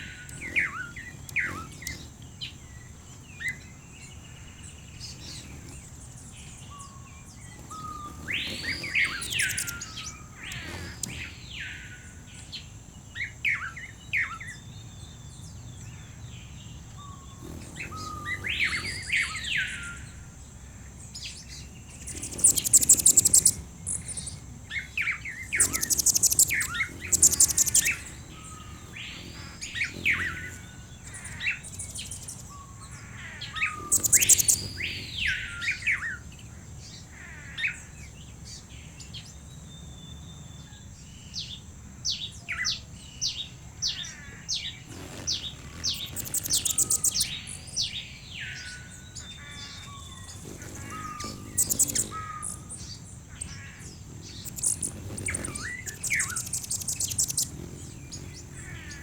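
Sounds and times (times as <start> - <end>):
birds calling and trilling: 0.0 - 59.0.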